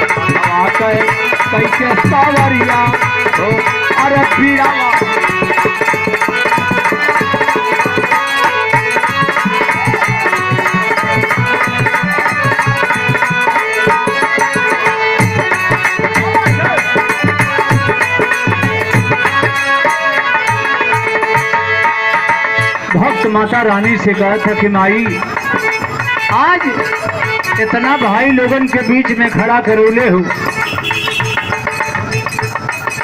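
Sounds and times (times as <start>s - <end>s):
hand drum fast rhythm: 0.0s - 33.0s
held melody notes: 0.0s - 33.0s.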